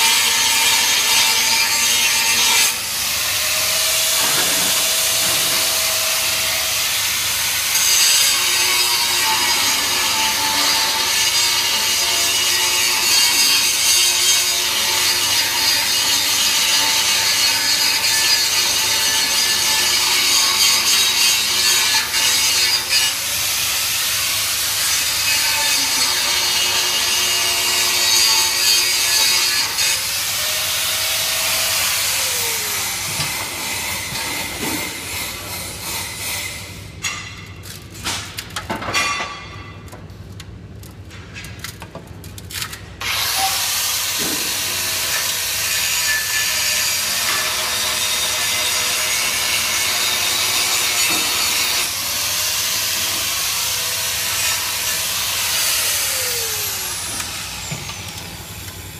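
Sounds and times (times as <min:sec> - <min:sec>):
angle grinder grinding steel: 0:00.0 - 0:36.6, 0:43.0 - 0:58.9.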